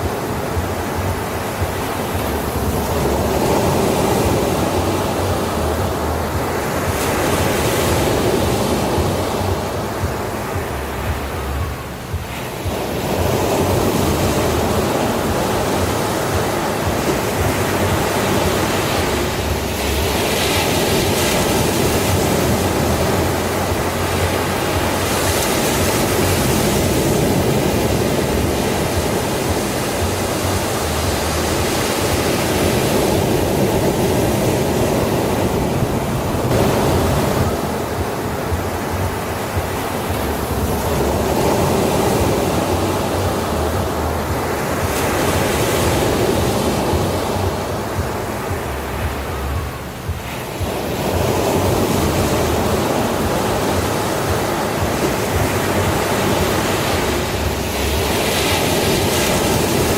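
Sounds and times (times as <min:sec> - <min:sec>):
surf roaring on beach: 0:00.0 - 0:59.9
wind buffeting microphone: 0:00.0 - 0:59.9.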